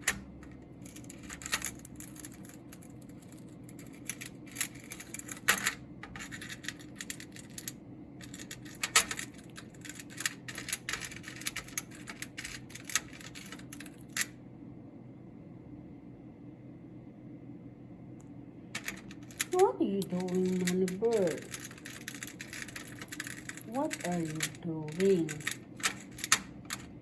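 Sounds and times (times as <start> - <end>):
bird pecking and scratching: 0.0 - 14.3, 18.8 - 27.0.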